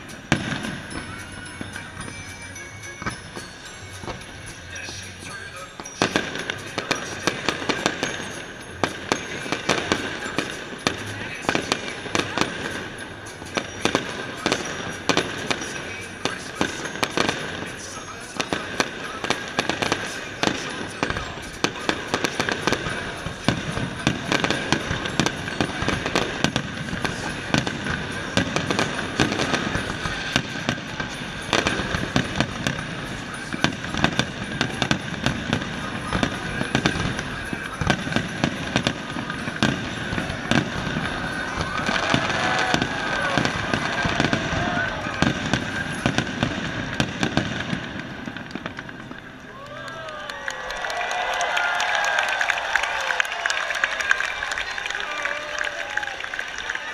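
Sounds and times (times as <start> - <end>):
crowd voices: 0.0 - 56.9
fireworks bangs and crackling: 0.0 - 56.9.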